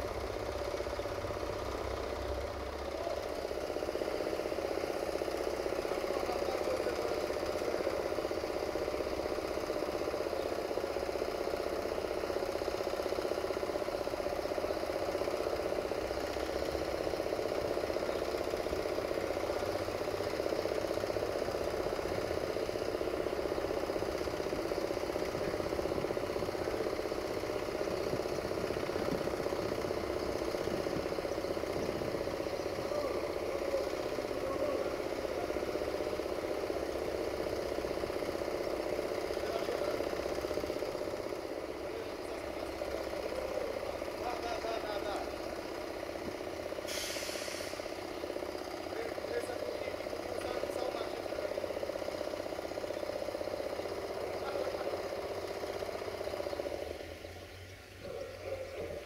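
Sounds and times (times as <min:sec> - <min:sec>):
diesel locomotive engine idling: 0:00.0 - 0:59.0.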